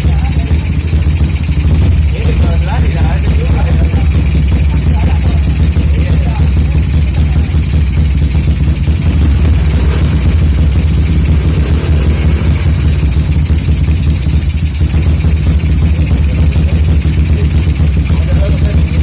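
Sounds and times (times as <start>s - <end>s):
small motorcycle engine running: 0.0s - 19.0s.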